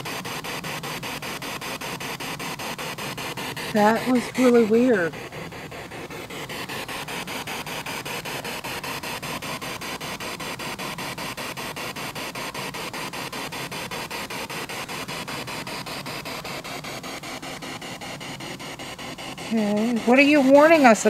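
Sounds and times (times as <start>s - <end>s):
pulsing radio static: 0.0s - 21.0s.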